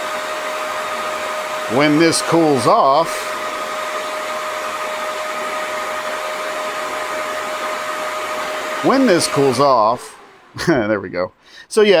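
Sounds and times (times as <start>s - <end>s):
fans rushing and whining: 0.0s - 12.0s.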